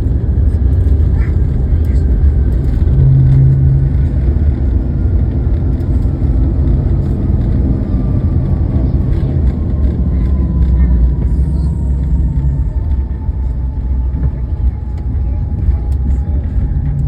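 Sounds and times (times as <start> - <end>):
jet engines rumbling: 0.0 - 17.0
wheels on runway: 0.0 - 17.0
engine whine falling in pitch: 2.4 - 17.0.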